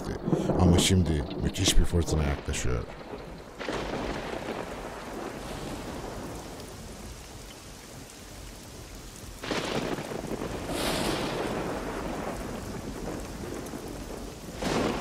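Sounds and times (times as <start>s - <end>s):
loud thunderclap: 0.0s - 6.9s, 9.4s - 15.0s
steady rain: 0.0s - 15.0s
thunder rumbling: 0.0s - 15.0s.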